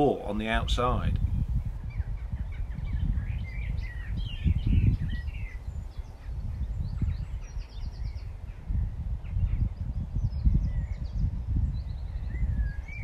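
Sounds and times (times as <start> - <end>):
birds singing and chirping: 0.0 - 13.0
wind rumble on microphone: 0.0 - 13.0.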